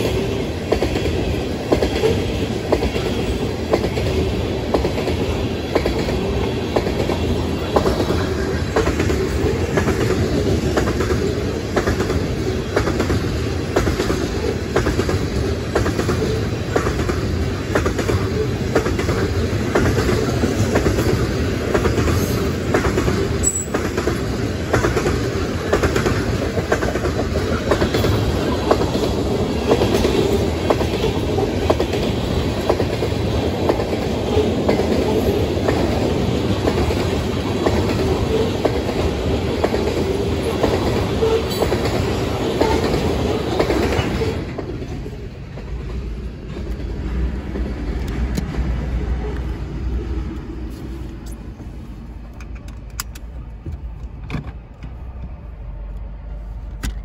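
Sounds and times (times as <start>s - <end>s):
wheels clicking over rail joints: 0.0s - 49.5s
train wheels rumbling on rail: 0.0s - 57.0s.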